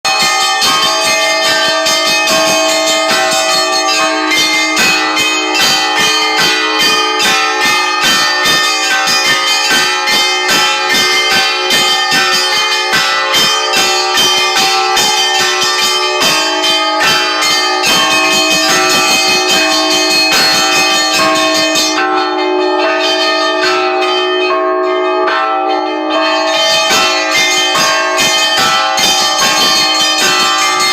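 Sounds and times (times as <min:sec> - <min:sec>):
large bells ringing: 0:00.1 - 0:30.9.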